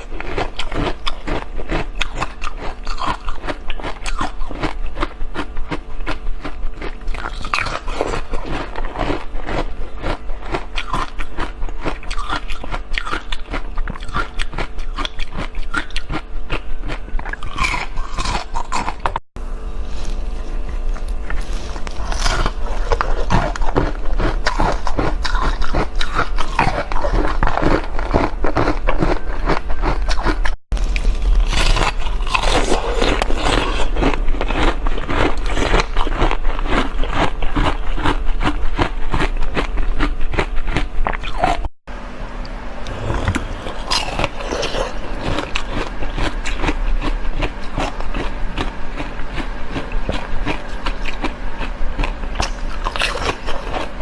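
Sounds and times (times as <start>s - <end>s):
chewing crunchy shaved ice: 0.0s - 19.2s, 19.8s - 41.7s, 42.8s - 54.0s.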